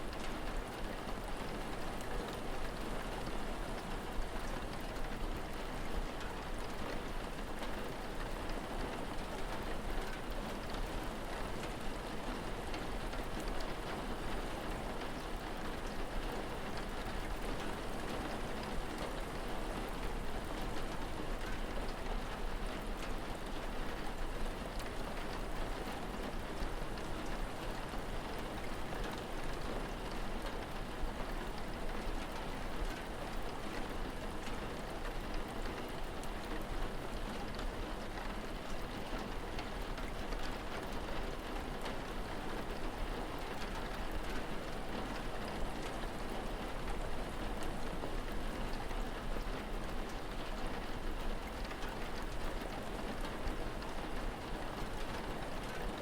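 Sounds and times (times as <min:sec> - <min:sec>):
steady rain hiss: 0:00.0 - 0:56.0
raindrop ticks: 0:00.1 - 0:56.0.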